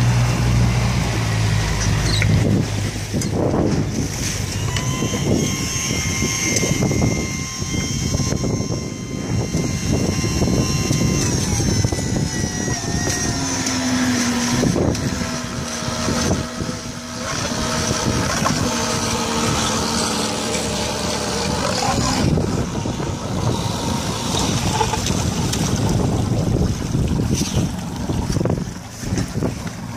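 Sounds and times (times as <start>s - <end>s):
boat engine running: 0.0s - 29.9s
wind buffeting microphone: 0.0s - 29.9s.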